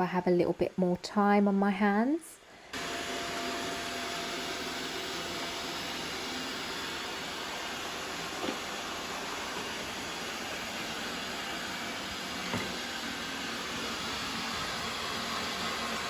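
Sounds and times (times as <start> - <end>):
robot vacuum running: 2.8 - 16.0.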